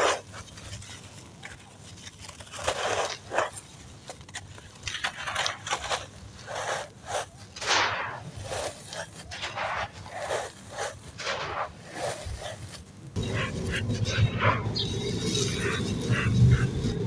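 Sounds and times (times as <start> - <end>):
sand clumps crunching and crumbling: 0.0 - 17.0.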